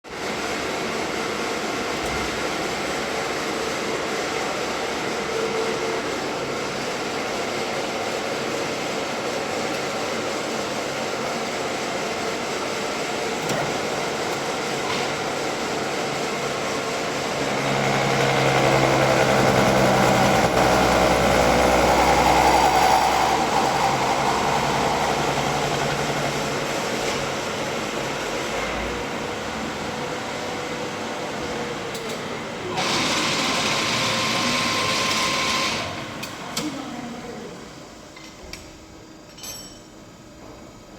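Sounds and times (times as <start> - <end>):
milling machine whining hum: 0.1 - 40.9.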